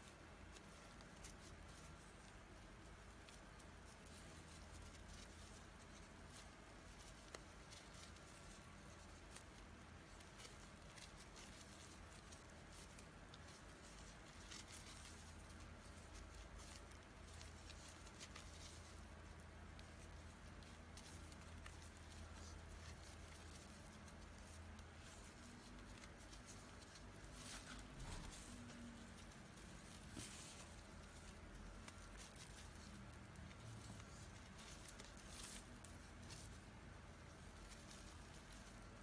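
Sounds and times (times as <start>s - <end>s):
low steady hum: 0.0s - 39.0s
yarn rustling through stitches: 0.0s - 39.0s.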